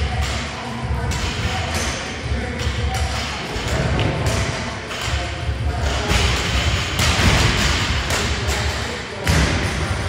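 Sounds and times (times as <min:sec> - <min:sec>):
loud music with low beat: 0:00.0 - 0:10.0.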